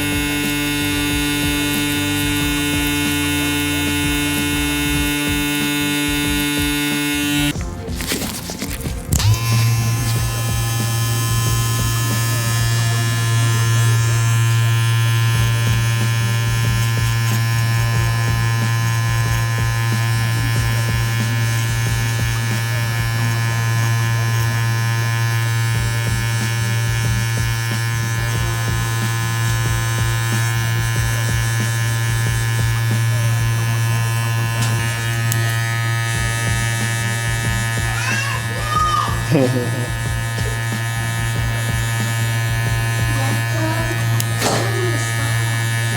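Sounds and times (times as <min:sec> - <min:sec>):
clipper blade cutting hair: 0:00.0 - 0:45.9
hair clipper motor humming: 0:00.0 - 0:45.9.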